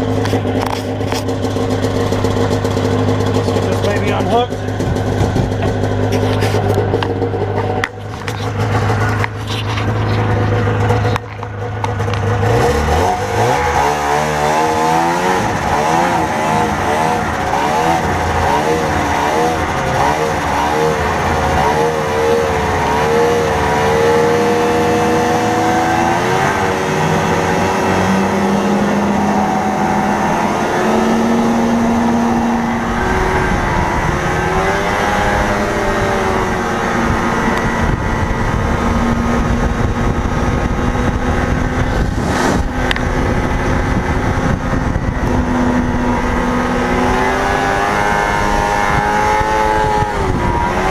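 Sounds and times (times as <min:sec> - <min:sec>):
snowmobile engine idling and revving: 0:00.0 - 0:50.9.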